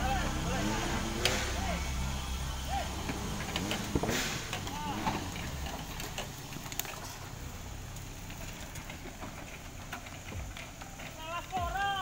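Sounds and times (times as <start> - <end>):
engine running at low revs: 0.0 - 11.2.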